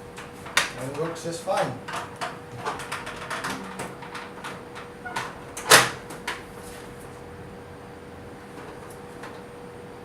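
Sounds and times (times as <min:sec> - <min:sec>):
air conditioner humming: 0:00.0 - 0:10.0.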